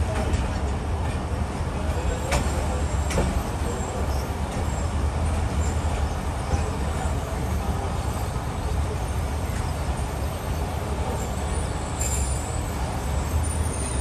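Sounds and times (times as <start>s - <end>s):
train coach rumbling on rails: 0.0s - 14.0s.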